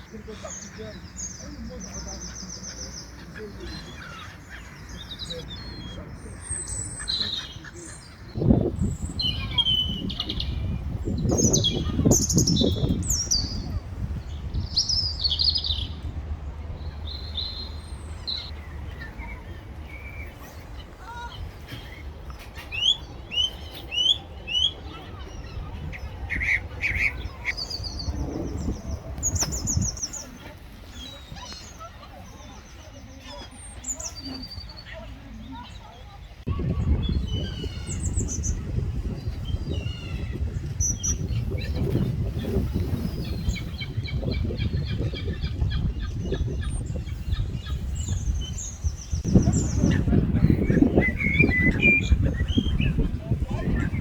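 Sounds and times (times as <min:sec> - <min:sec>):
seagulls calling: 0:00.0 - 0:16.0, 0:17.0 - 0:54.0.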